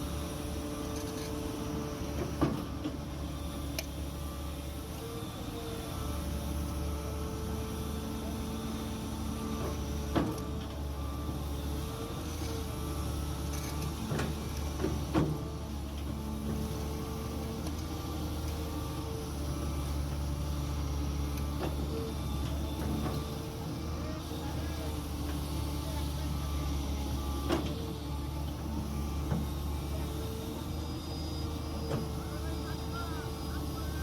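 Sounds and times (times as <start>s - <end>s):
diesel engine running: 0.0s - 34.0s
hydraulic whine: 0.0s - 34.0s.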